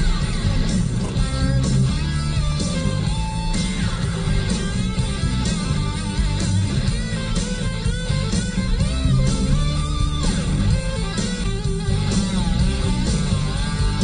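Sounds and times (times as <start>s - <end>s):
electric guitar lead: 0.0s - 14.0s
hard rock music: 0.0s - 14.0s.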